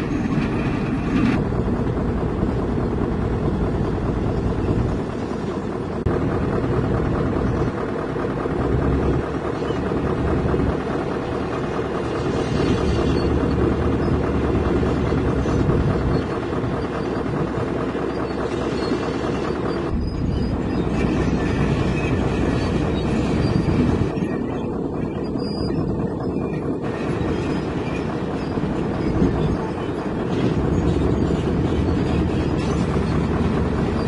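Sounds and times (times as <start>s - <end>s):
heavy diesel machines rumbling: 0.0s - 34.0s.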